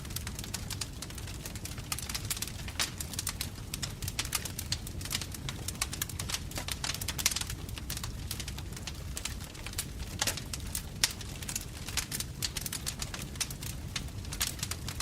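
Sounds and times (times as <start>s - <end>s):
low rumble of flames: 0.0s - 15.0s
wood fire crackling: 0.0s - 15.0s
sharp pops and snaps: 1.9s - 15.0s.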